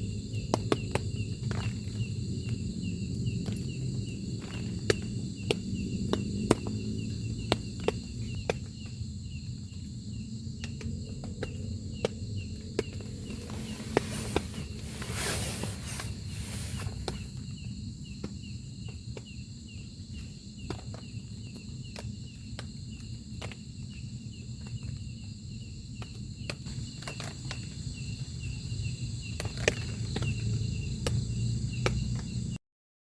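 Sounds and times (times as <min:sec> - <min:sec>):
insect chirping: 0:00.0 - 0:32.6.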